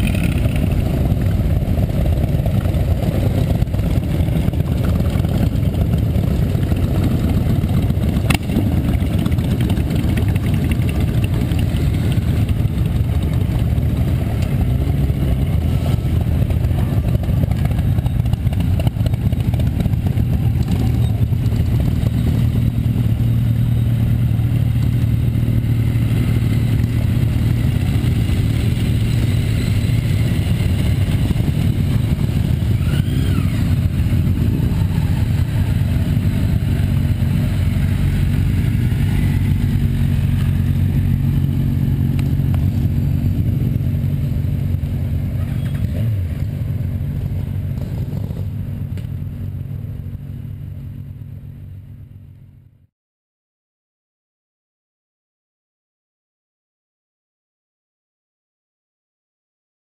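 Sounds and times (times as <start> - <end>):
motorcycles passing with low rumble: 0.0 - 52.9.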